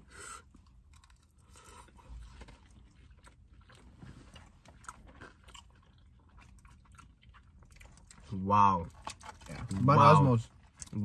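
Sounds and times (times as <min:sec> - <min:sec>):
chewing fries: 0:00.0 - 0:11.0.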